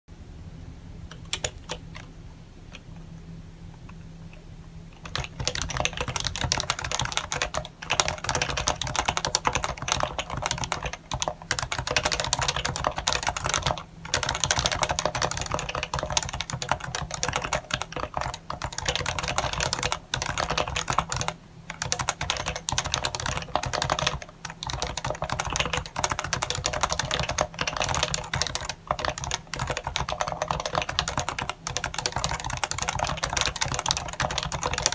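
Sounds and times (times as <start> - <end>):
keyboard typing: 1.1 - 2.1, 4.9 - 34.9.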